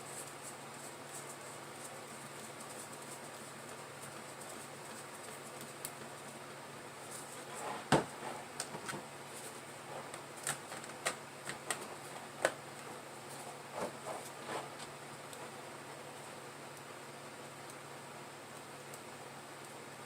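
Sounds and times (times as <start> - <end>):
faint steady hum and hiss: 0.0 - 20.0.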